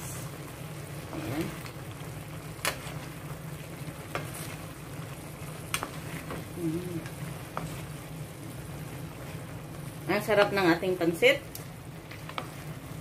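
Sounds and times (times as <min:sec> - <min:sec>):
spatula stirring noodles in pan: 0:00.0 - 0:10.8, 0:11.4 - 0:13.0
faint sizzle: 0:00.0 - 0:13.0.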